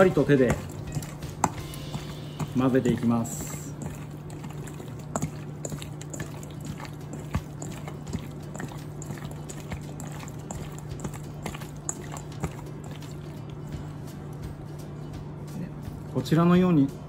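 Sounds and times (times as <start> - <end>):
sticky squelching of kneading: 0.0 - 14.2
steady low hum: 0.0 - 16.2.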